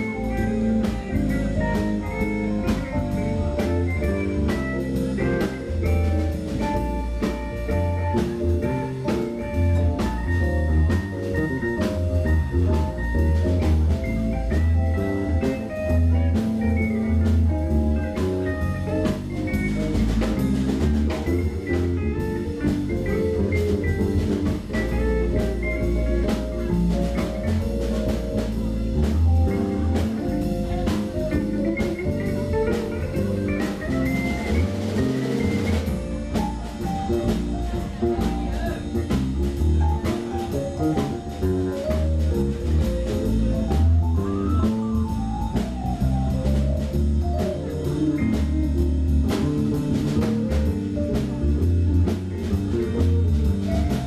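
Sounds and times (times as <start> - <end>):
drum kit with cymbals: 0.0 - 54.0
electric bass: 0.0 - 54.0
electric guitar: 0.0 - 54.0
keyboard: 0.0 - 54.0.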